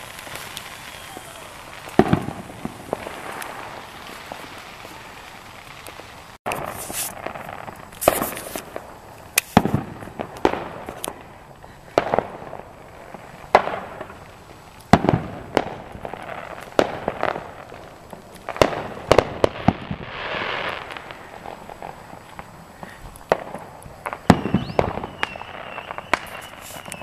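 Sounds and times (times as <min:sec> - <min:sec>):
fireworks bangs: 0:00.0 - 0:27.0.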